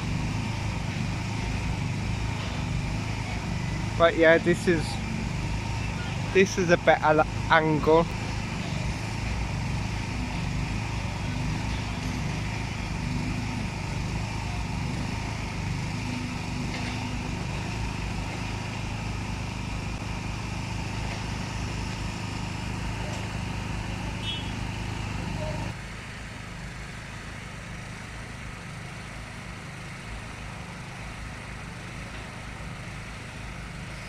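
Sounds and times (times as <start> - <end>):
faint engine drone: 0.0 - 34.0
road traffic rumble: 0.0 - 34.0.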